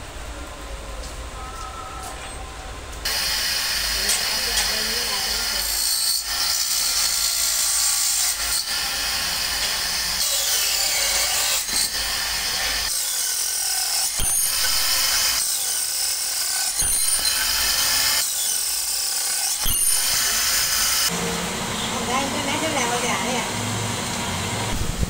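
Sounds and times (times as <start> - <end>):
workshop machinery hissing: 2.3 - 25.0.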